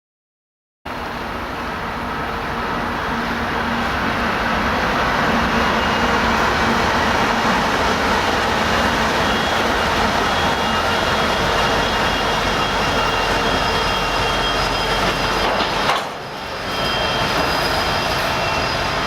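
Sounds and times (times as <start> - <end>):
train rumbling: 0.9 - 19.0.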